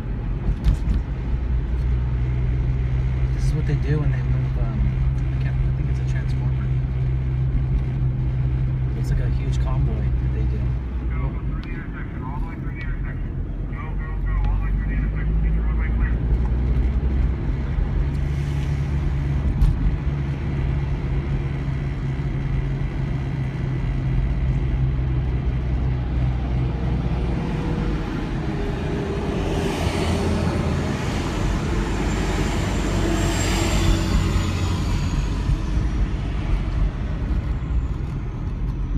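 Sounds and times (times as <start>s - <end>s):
low truck engine rumble: 0.0s - 38.9s
vehicles passing: 0.0s - 38.9s.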